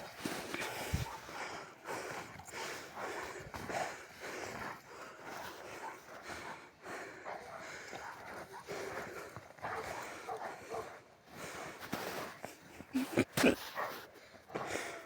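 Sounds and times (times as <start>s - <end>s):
dogs making quiet noises: 0.0s - 15.0s.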